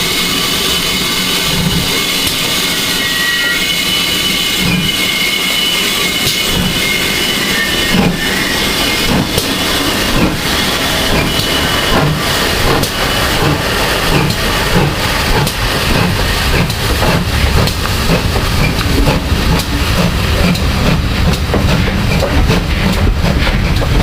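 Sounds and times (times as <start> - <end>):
steam hissing: 0.0 - 24.0
train wheels clattering over rails: 0.0 - 24.0.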